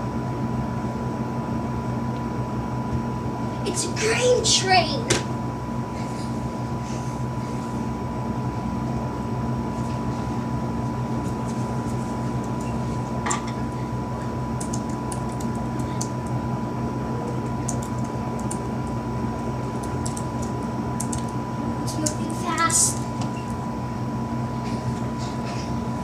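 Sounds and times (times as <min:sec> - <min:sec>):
mechanical hum with high whine: 0:00.0 - 0:26.0.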